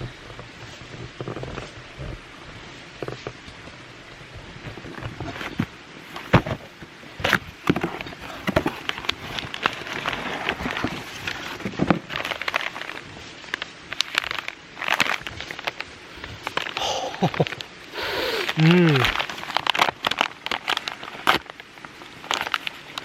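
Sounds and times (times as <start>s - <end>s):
dry wood and leaves crackling: 0.0s - 23.0s.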